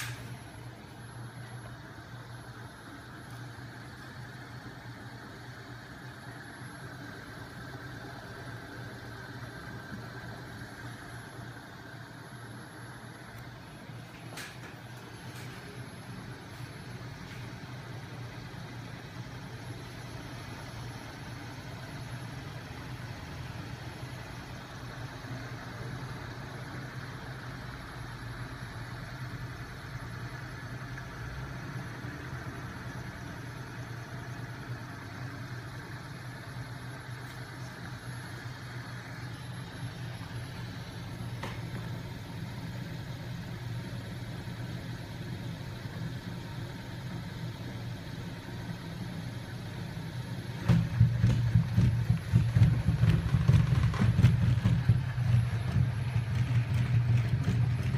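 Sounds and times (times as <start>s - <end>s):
machine humming: 0.0s - 57.9s.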